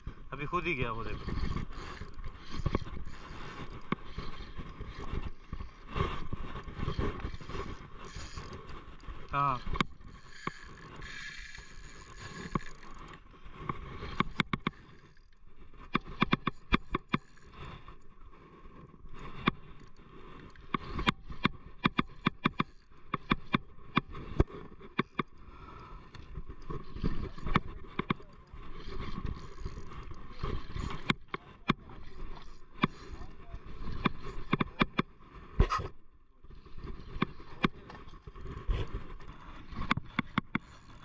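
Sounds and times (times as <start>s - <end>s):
fishing reel clicking: 0.4s - 35.0s, 36.6s - 41.0s.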